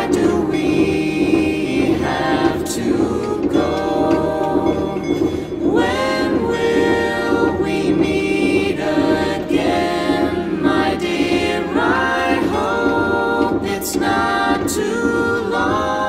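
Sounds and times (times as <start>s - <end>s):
song with gliding sung notes: 0.0s - 16.0s.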